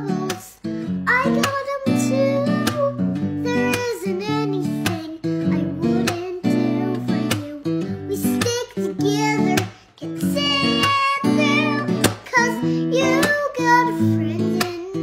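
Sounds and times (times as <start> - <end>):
person singing: 0.0 - 15.0
strummed acoustic guitar: 0.0 - 15.0.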